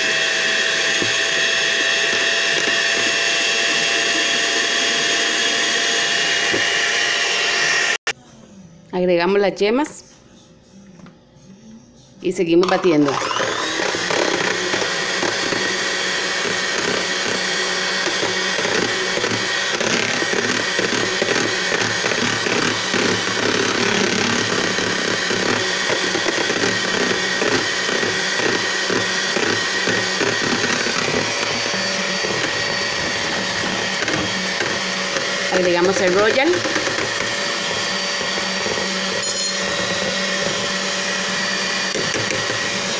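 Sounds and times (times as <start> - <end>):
electric hand mixer whisking: 0.0 - 8.1, 12.6 - 42.9.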